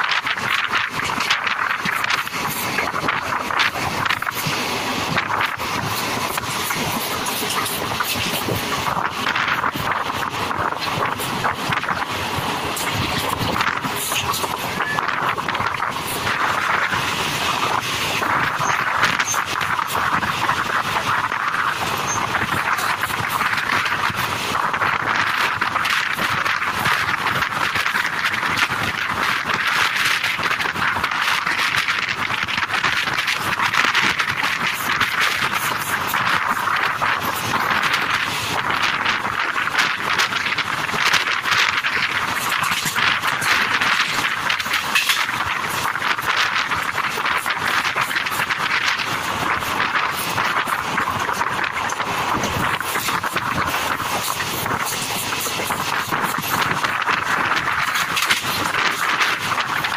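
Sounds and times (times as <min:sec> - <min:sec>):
train wheels rolling on rails: 0:00.0 - 0:59.9
wind rushing over microphone: 0:00.0 - 0:59.9.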